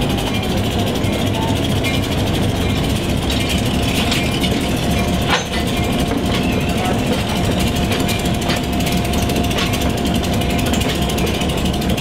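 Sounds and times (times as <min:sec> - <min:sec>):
diesel locomotive engines running: 0:00.0 - 0:12.0
thin steady whine: 0:00.0 - 0:12.0.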